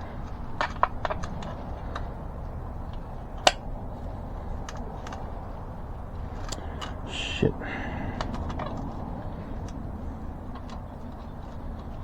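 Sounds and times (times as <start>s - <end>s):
bicycle spokes clicking: 0.0s - 7.1s, 7.7s - 12.0s.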